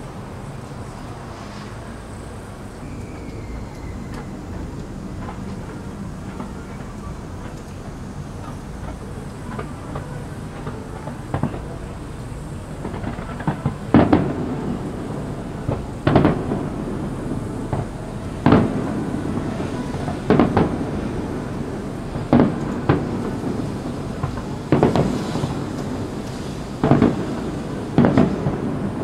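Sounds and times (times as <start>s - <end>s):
rumbling haze of noise: 0.0s - 29.0s
firework shells booming: 1.4s - 29.0s
small firework pops: 2.7s - 29.0s.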